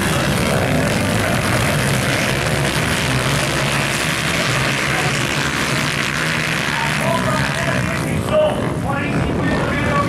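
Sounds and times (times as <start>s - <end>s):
motorcycle engines racing: 0.0s - 10.0s.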